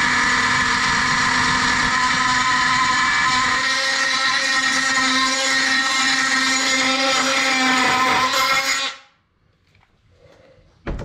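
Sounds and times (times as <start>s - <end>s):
oscillating multi-tool cutting metal: 0.0s - 9.1s.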